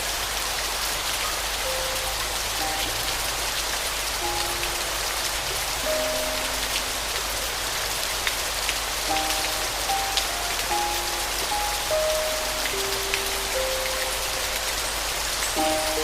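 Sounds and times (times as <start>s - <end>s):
steady rain falling: 0.0s - 16.0s
soft piano notes: 1.2s - 16.0s.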